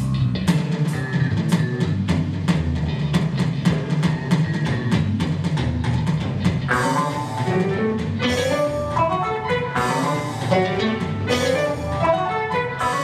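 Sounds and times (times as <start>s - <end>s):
guitar-led instrumental music: 0.0s - 13.0s.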